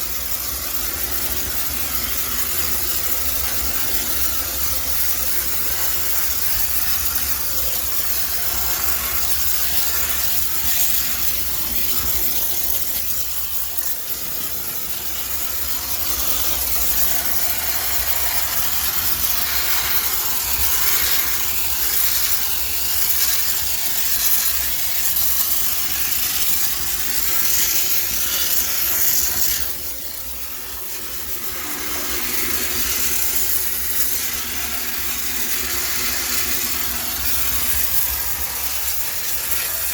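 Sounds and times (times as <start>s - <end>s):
steam cleaner hissing: 0.0s - 39.9s.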